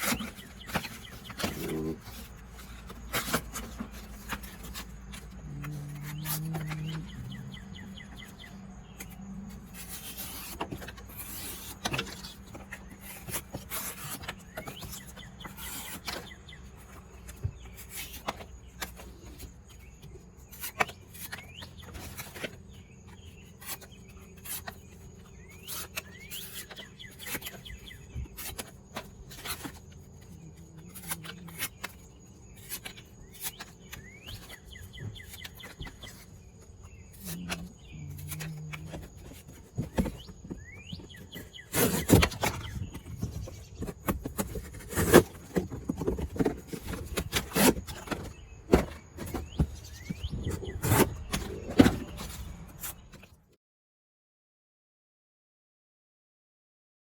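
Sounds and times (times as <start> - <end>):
knife cutting cardboard: 0.0 - 53.3.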